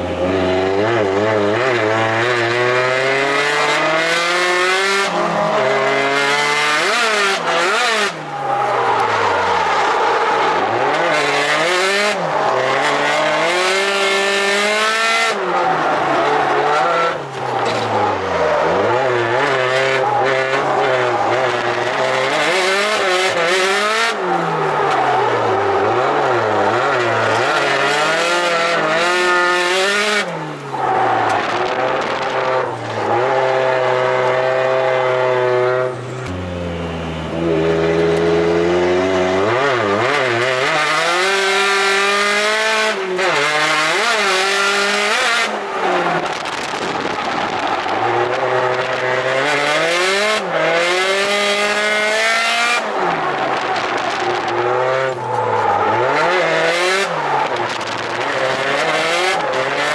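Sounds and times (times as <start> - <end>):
turbocharged car engine revving: 0.0 - 59.9
tyre noise: 0.0 - 59.9.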